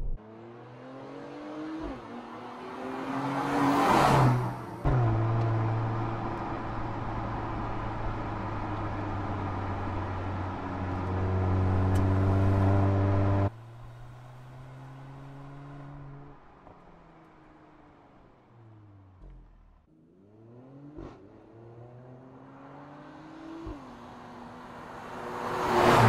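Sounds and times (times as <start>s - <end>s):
car engine: 0.0s - 26.0s.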